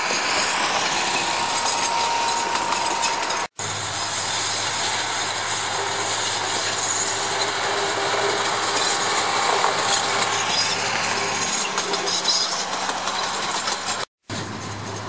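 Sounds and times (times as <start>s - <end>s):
diesel locomotive engine running: 0.0s - 15.0s
wagons rolling along track: 0.0s - 15.0s.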